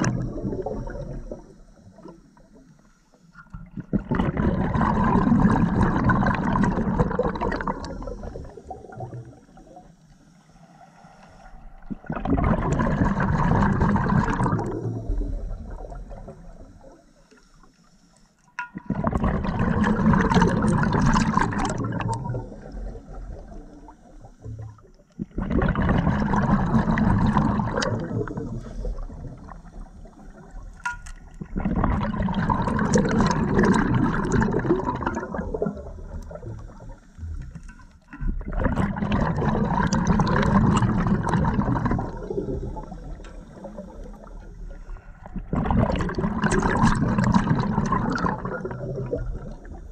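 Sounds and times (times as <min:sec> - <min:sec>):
underwater exhaust bubbles: 0:00.0 - 0:10.5, 0:11.1 - 0:49.9.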